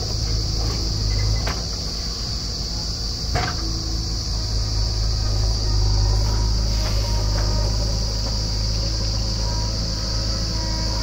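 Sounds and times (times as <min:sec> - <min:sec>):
high-pitched insect drone: 0:00.0 - 0:11.0
low engine rumble: 0:00.0 - 0:11.0.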